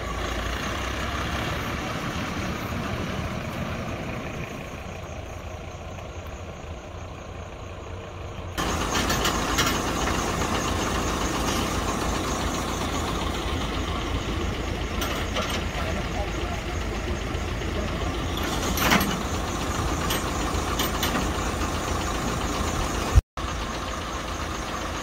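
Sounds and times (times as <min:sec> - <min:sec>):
diesel truck engine: 0:00.0 - 0:25.0
road noise: 0:00.0 - 0:25.0.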